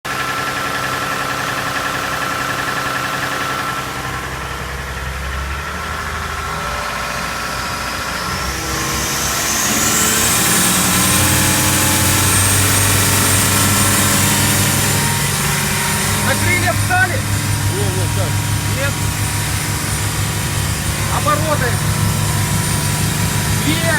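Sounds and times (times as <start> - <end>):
boat diesel engine running: 0.0 - 23.9
high whine of engine revving: 0.1 - 23.9.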